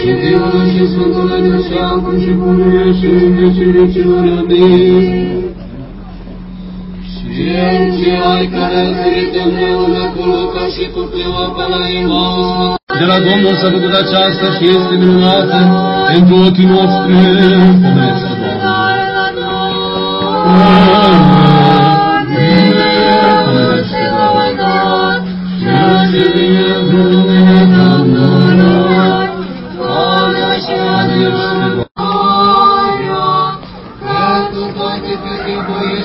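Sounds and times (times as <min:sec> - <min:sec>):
choir singing chant: 0:00.0 - 0:05.7, 0:07.0 - 0:36.0.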